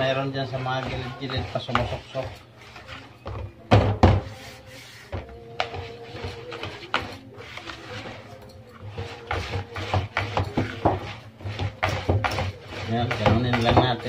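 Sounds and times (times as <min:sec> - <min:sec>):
whisk scraping plastic bowl: 0:00.0 - 0:14.0.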